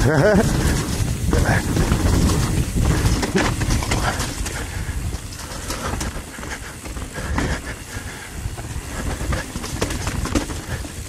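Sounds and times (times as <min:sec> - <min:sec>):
bike clicks and rattles: 0:00.0 - 0:11.0
bike tyres rumbling on dirt: 0:00.0 - 0:11.0.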